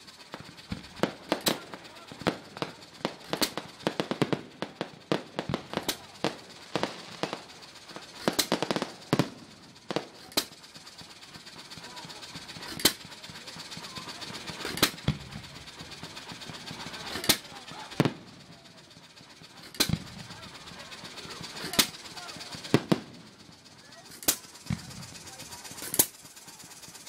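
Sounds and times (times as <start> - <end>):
fireworks bangs and crackles: 0.0 - 26.1.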